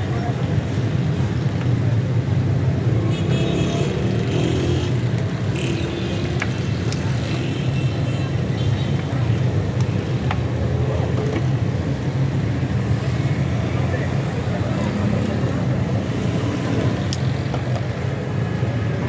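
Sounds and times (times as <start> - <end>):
low rumble of street noise: 0.0 - 19.0.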